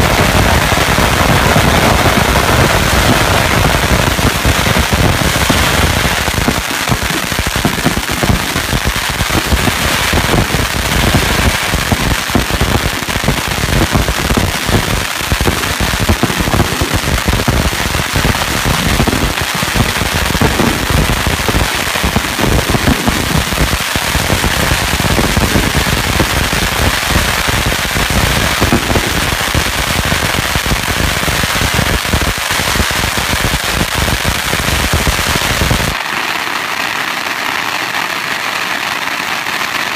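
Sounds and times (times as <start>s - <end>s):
firecrackers exploding: 0.0s - 39.9s.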